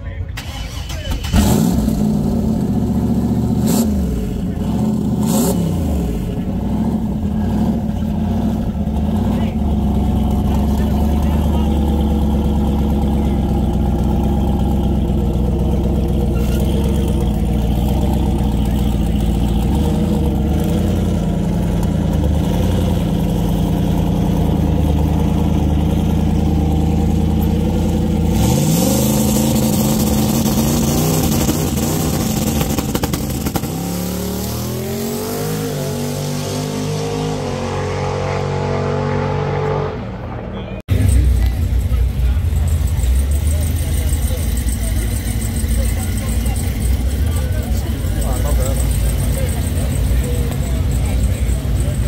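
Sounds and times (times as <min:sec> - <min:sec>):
car engine idling rough: 0:00.0 - 0:35.0, 0:40.7 - 0:52.0
car engine revving and accelerating: 0:01.2 - 0:52.0.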